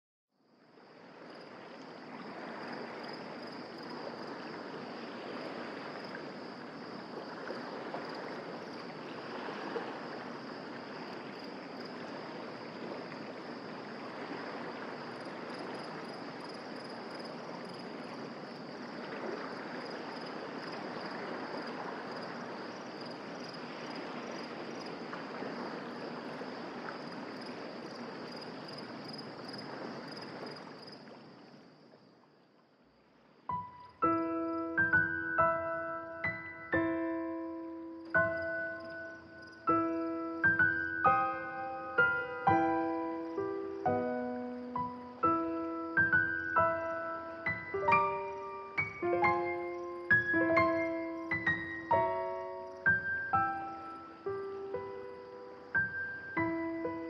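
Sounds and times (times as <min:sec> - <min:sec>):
high insect trill: 0:00.4 - 0:57.0
soft rushing wash: 0:00.5 - 0:57.0.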